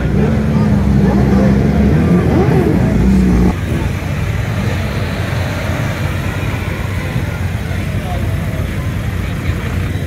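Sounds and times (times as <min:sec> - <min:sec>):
crowd chatter: 0:00.0 - 0:10.0
motorcycles revving: 0:00.0 - 0:10.0.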